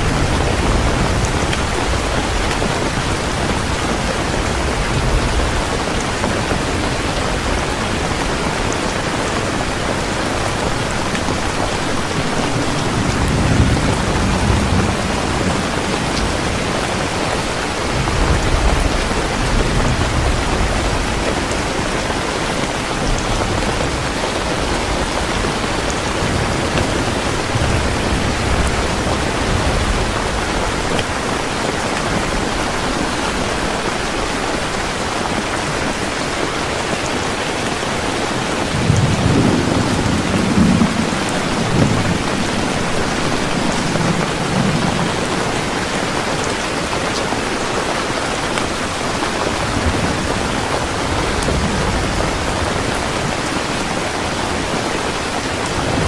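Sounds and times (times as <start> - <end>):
low thunder rumbles: 0.0 - 34.9, 38.1 - 46.8, 49.1 - 53.9
heavy rain falling: 0.0 - 56.0.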